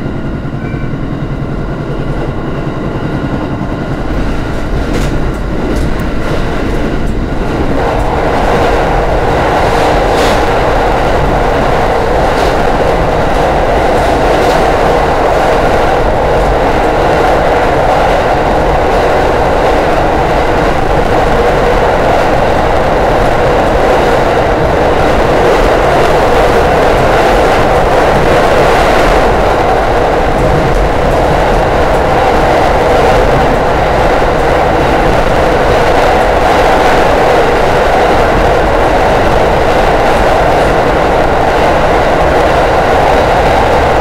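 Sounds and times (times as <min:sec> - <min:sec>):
train running through tunnel: 0:00.0 - 0:44.0.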